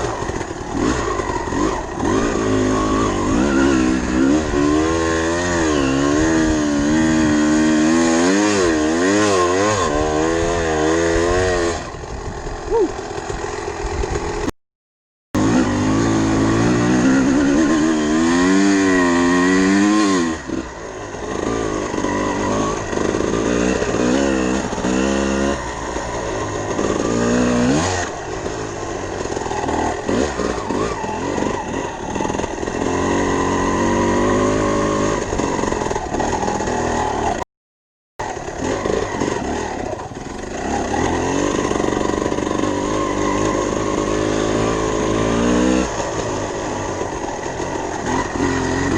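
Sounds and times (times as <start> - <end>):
dirt bike engine revving: 0.0 - 14.5, 15.4 - 37.4, 38.2 - 48.9.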